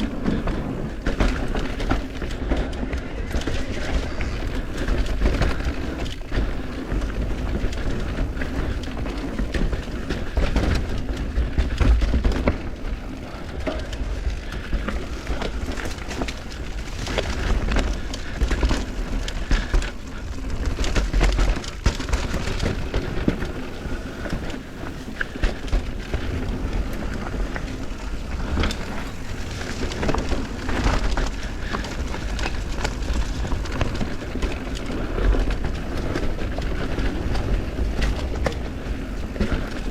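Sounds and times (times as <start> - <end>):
bike rattling over bumps: 0.0 - 39.9
steady low rumble: 0.0 - 39.9
tyres crunching over dirt and stones: 0.0 - 39.9.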